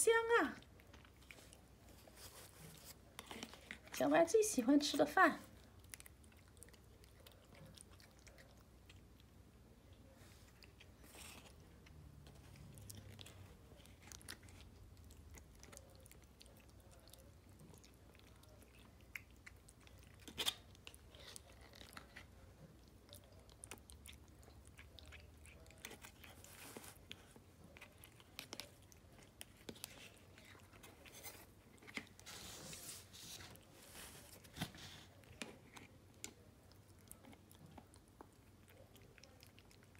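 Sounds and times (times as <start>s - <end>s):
cat chewing: 0.5s - 4.0s, 5.4s - 39.9s.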